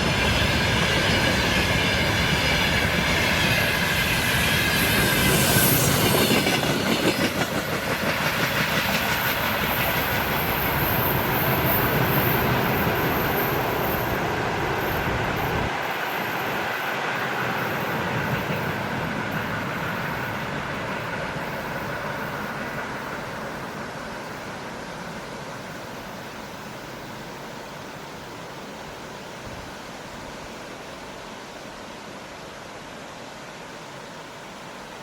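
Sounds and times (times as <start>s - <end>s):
train wheels on rails: 0.0s - 31.8s.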